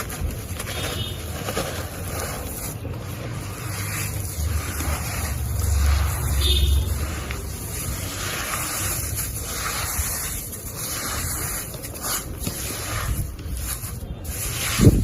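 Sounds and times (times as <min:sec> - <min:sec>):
gritty crunching and scraping: 0:00.0 - 0:15.0.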